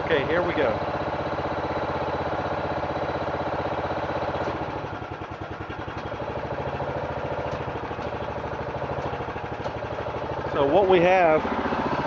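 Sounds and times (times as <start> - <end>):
hydraulic power unit engine running: 0.0 - 12.0.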